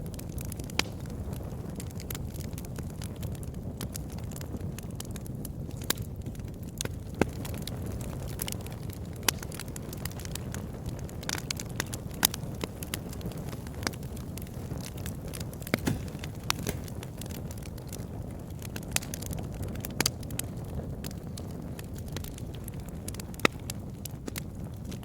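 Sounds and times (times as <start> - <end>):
burning wood crackling and popping: 0.0 - 25.0
campfire flames rumbling: 0.0 - 25.0.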